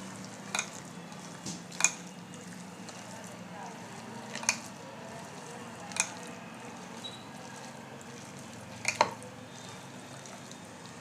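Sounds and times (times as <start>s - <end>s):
hands squelching wet marinade: 0.0s - 11.0s.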